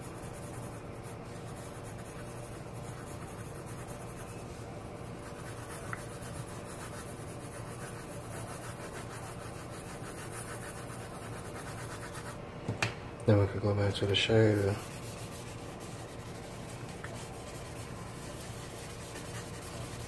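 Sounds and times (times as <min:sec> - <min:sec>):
pencil scratching on paper: 0:00.0 - 0:12.4, 0:14.3 - 0:20.0.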